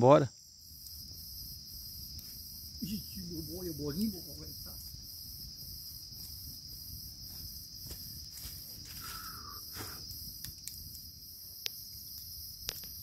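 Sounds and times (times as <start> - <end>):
insects buzzing: 0.0 - 13.0
pulsing insect chirp: 0.0 - 13.0.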